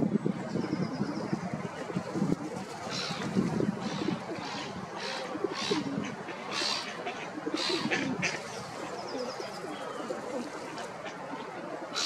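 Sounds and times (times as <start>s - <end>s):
gulls calling: 0.7s - 12.0s.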